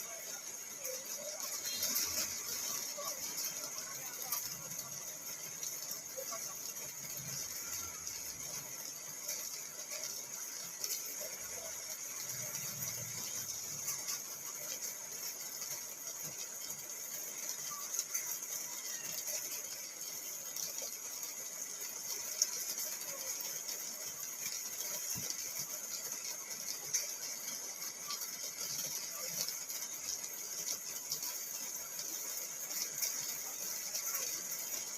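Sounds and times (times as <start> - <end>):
rain pattering on car roof: 0.0 - 34.9.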